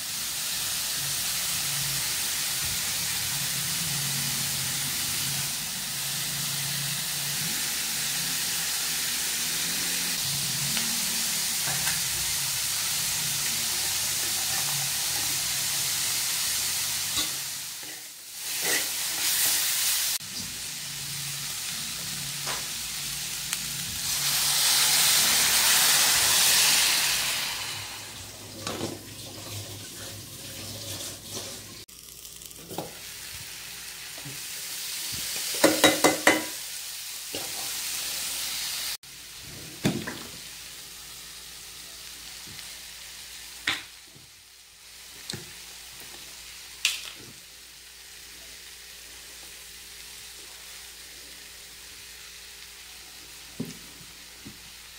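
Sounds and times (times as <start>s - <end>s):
food sizzling in a wok: 0.0s - 54.9s.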